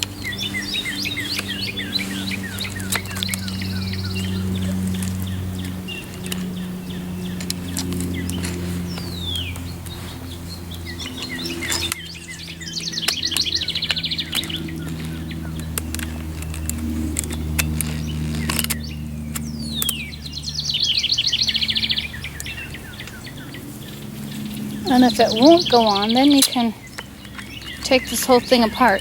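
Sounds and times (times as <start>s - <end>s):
songbird whistle and trill: 0.0s - 16.1s, 17.3s - 29.0s
steady low hum: 0.0s - 29.0s.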